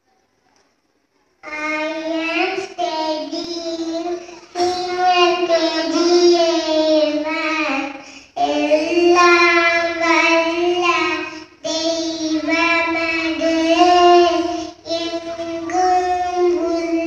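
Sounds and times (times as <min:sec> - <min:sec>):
girl singing: 0:01.4 - 0:17.0.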